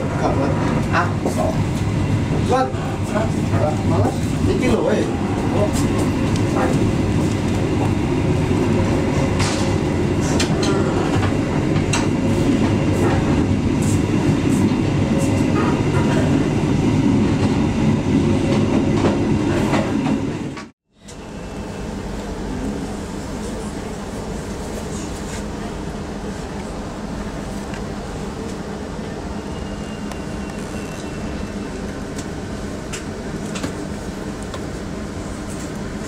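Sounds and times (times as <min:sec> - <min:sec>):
train coach rumbling: 0:00.0 - 0:36.0.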